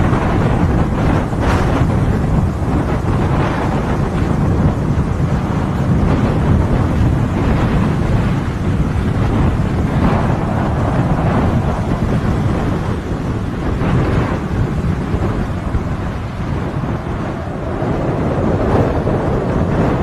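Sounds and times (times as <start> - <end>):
gusty wind buffeting microphone: 0.0 - 20.0.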